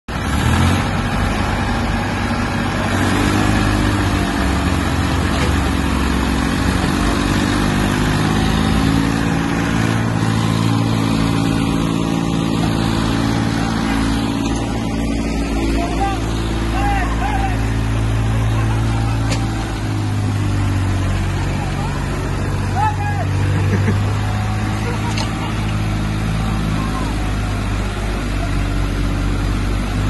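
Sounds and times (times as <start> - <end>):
diesel tractor engines under load: 0.1 - 30.0.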